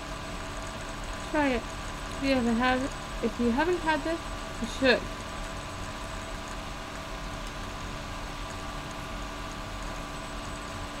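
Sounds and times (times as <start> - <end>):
background hum and hiss: 0.0 - 11.0
faint steady tones: 0.0 - 11.0.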